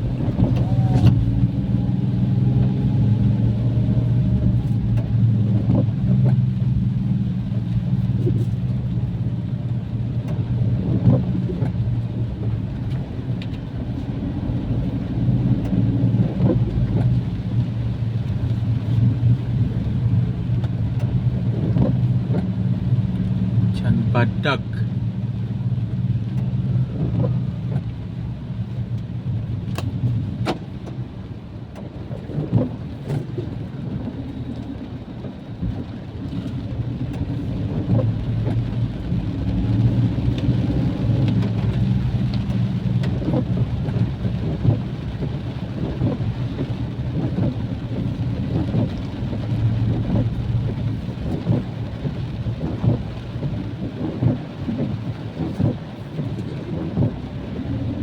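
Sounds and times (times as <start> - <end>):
heavy rain pouring: 0.0 - 58.0
low rumble: 0.0 - 58.0.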